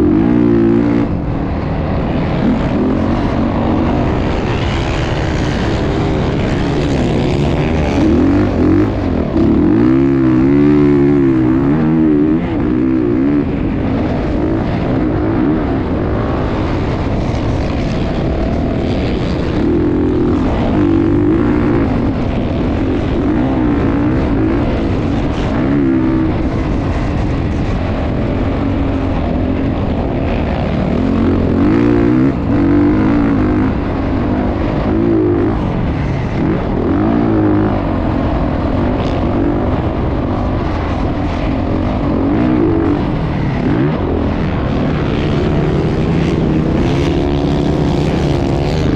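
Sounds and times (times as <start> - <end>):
motocross bike engines revving: 0.0 - 48.9.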